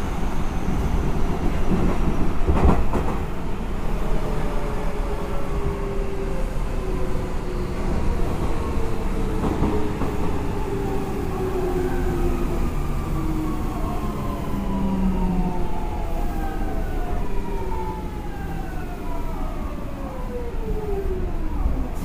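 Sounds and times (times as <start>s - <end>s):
train wheel and rail rumble: 0.0s - 22.0s.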